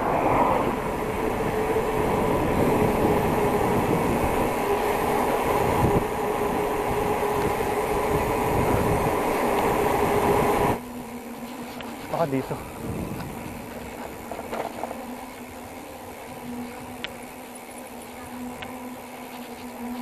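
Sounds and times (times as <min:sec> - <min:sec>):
steady whine: 0:00.0 - 0:20.0
wind and tyre noise rushing: 0:00.0 - 0:20.0.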